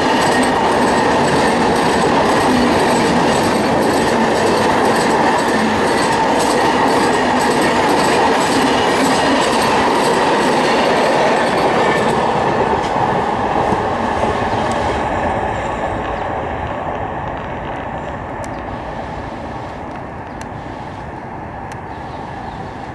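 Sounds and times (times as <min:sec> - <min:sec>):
train coaches rumbling and rattling: 0:00.0 - 0:22.9.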